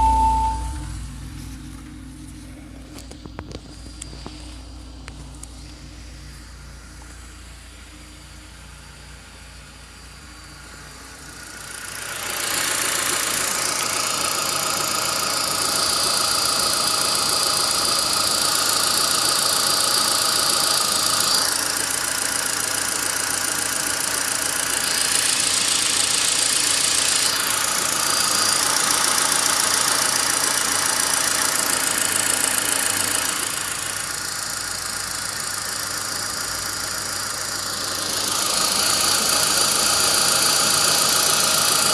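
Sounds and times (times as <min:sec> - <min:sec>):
car engine running: 0:00.0 - 0:41.9
high steady engine whine: 0:00.0 - 0:41.9.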